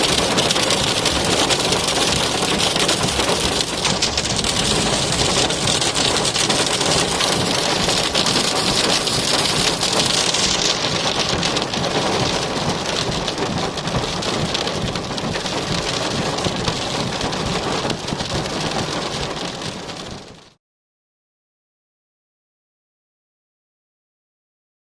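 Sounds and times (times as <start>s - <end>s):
hail hitting a car: 0.0s - 20.6s.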